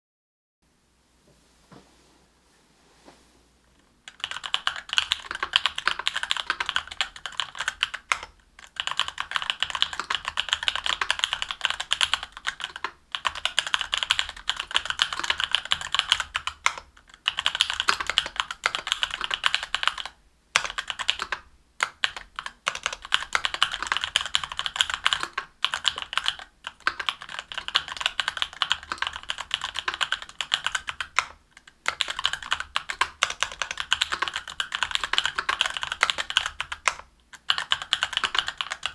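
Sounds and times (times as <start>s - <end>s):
mechanical keyboard typing: 4.1s - 38.9s.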